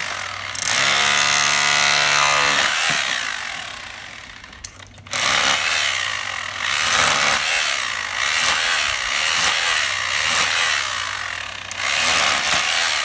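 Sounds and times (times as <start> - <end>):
electric chipping hammer on stone: 0.0 - 13.0.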